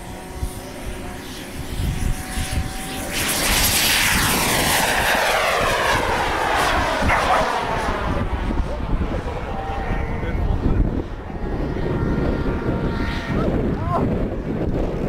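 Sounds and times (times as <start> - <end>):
model airplane engine passing: 0.0 - 15.0.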